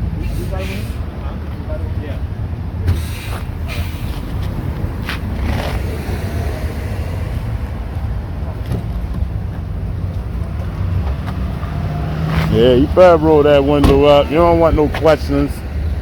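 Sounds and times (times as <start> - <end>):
vehicle engine low rumble: 0.0 - 16.0.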